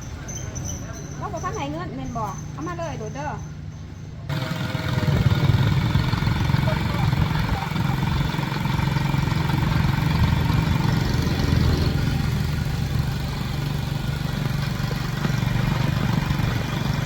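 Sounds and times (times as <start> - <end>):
motorcycle engine running: 2.2 - 17.0.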